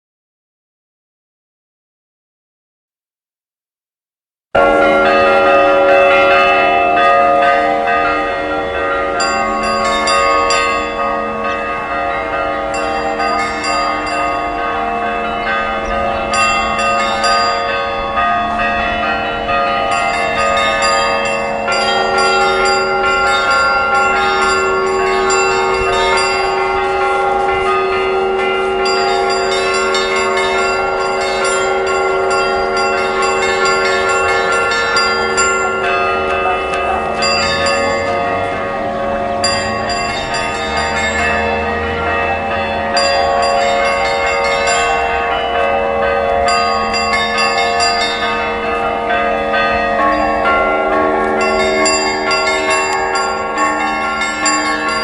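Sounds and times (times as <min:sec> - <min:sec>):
church bells ringing: 0:04.6 - 0:55.0.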